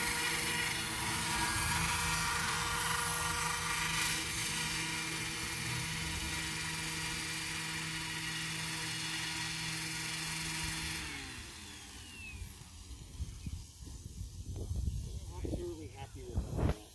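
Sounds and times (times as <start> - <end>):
model helicopter motor whine: 0.0 - 15.6.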